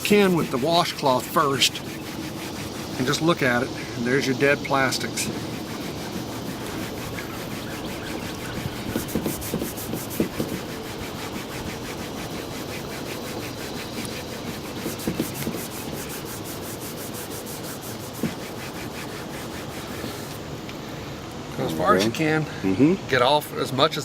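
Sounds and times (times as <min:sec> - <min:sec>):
cloth rubbing plastic bumper: 0:00.0 - 0:20.5.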